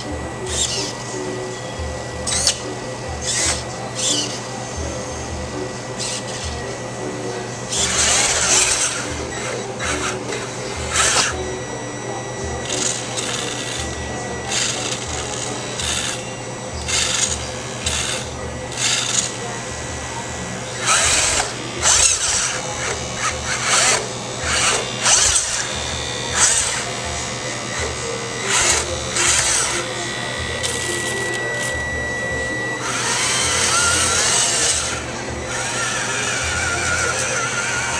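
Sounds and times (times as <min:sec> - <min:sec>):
toy gear motors whirring: 0:00.0 - 0:07.0, 0:07.6 - 0:37.9
steady low hum: 0:00.0 - 0:37.9.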